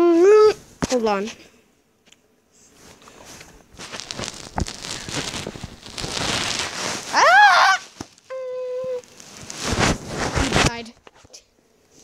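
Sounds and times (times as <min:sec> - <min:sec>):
rustling and handling noise: 0:00.5 - 0:12.0.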